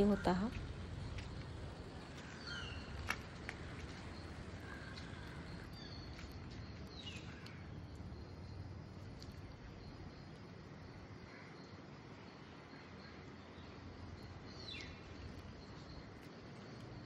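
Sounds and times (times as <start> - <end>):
birds chirping: 0.0 - 17.0
steady outdoor hiss: 0.0 - 17.0.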